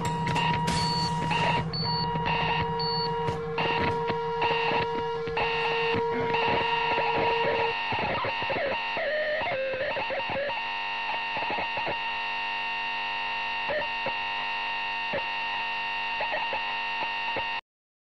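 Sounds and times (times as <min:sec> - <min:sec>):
crackles and glitches: 0:00.0 - 0:17.6
distorted drone music: 0:00.0 - 0:17.6.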